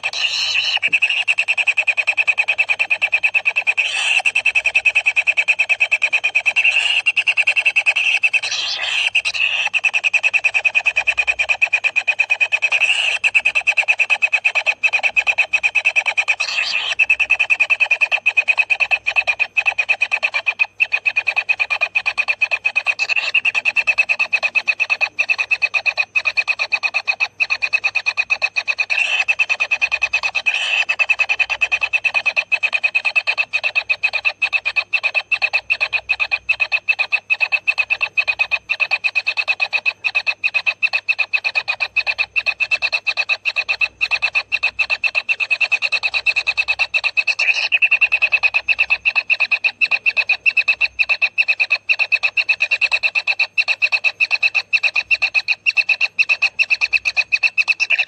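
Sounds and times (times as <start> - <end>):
nestlings calling in pulsing buzz: 0.0 - 58.0.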